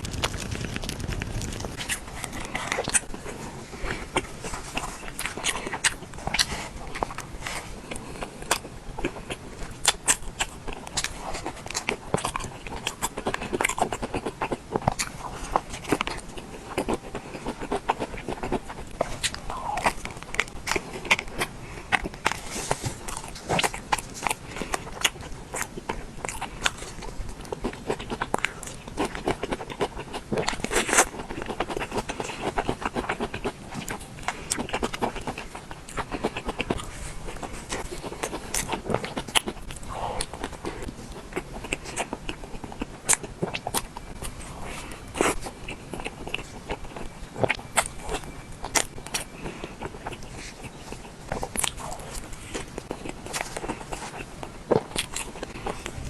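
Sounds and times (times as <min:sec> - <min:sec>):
chewing with mouth clicks: 0:00.0 - 0:56.0.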